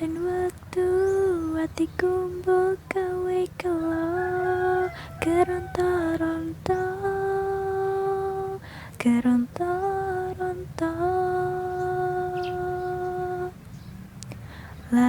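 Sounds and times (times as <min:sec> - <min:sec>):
person singing slow song: 0:00.0 - 0:13.6, 0:14.2 - 0:15.0
steady low hum: 0:00.0 - 0:15.0.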